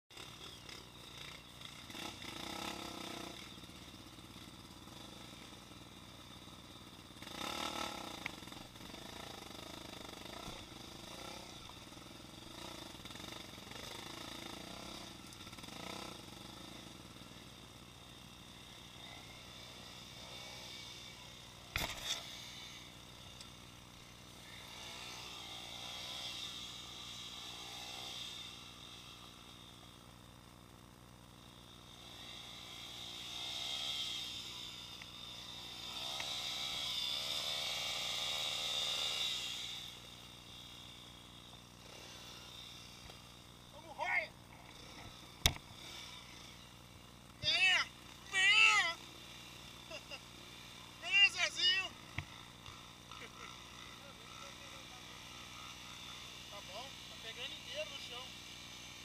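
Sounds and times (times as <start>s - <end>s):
motorcycle engines revving: 0.1s - 59.0s.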